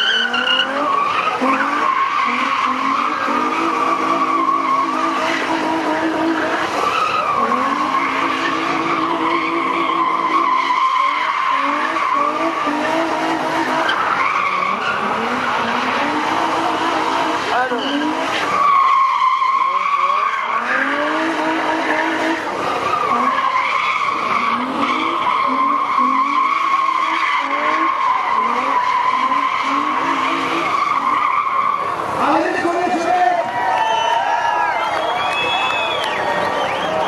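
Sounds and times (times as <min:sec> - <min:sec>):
car engine revving hard: 0:00.0 - 0:33.5
tyres squealing: 0:00.0 - 0:37.0.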